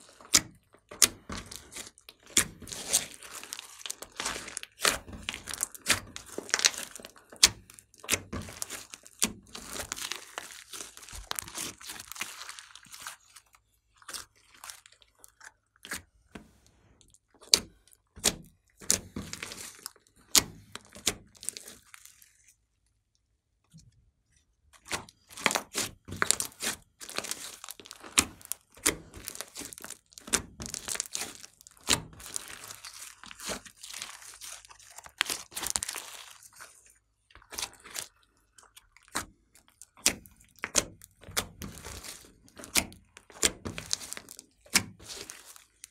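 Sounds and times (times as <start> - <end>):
hands squeezing popping slime: 0.0 - 16.1, 24.8 - 45.9.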